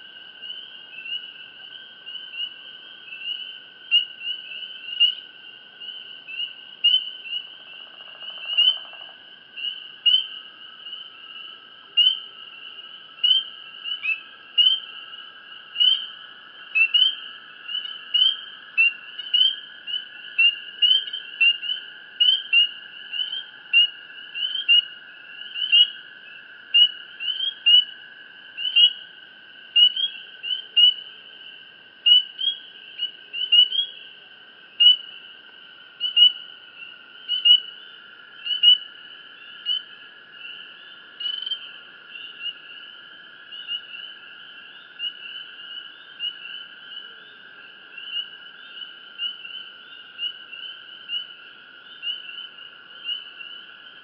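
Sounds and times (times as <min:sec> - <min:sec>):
crickets chirping: 0:00.0 - 0:54.0
steady low insect trill: 0:00.0 - 0:54.0.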